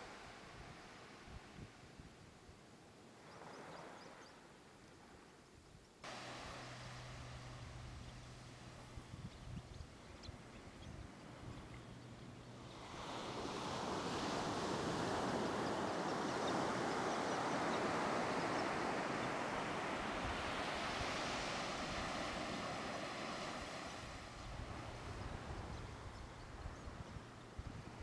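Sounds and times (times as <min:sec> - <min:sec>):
surf washing up a beach: 0:00.0 - 0:02.4, 0:06.0 - 0:28.0.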